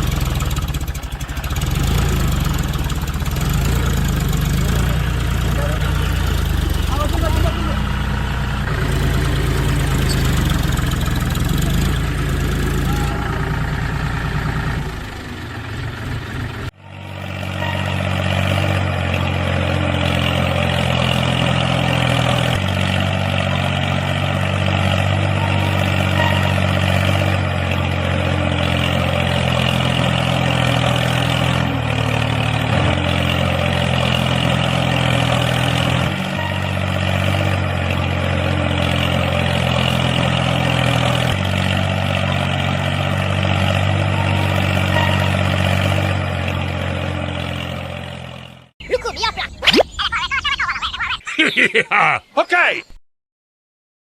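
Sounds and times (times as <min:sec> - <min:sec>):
engine idling: 0:00.0 - 0:48.7.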